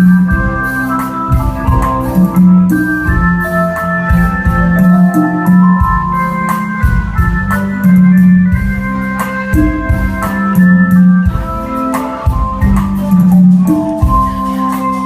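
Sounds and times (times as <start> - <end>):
electronic organ keyboard music: 0.0 - 15.0
percussion hits: 0.0 - 15.0.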